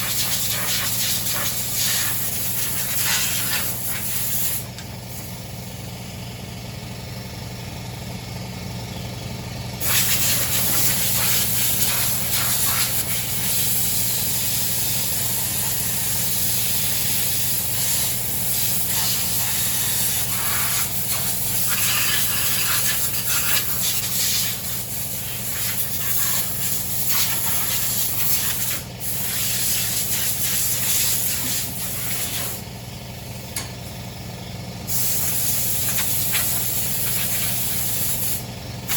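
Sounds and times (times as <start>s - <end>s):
loud hissing rush: 0.0s - 5.3s, 9.8s - 32.6s, 34.9s - 38.9s
small engine running: 0.0s - 38.9s.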